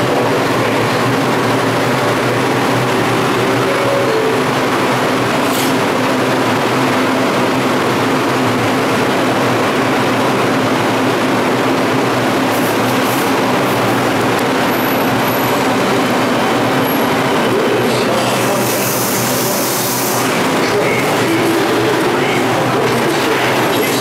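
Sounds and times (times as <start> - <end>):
subway train wheels rumbling: 0.0 - 24.0.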